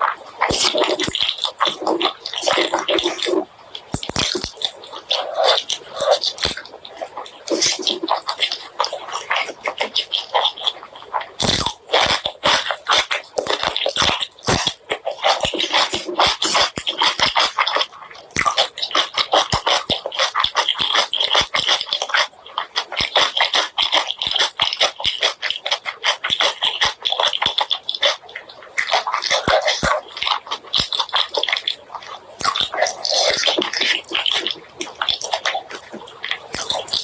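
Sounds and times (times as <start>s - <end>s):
chewing and mouth smacking: 0.0s - 37.0s.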